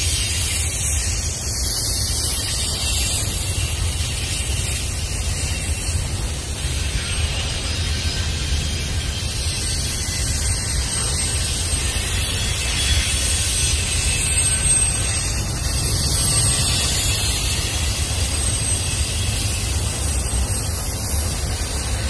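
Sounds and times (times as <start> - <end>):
high hiss: 0.0 - 22.0
train rolling on steel rails: 0.0 - 22.0.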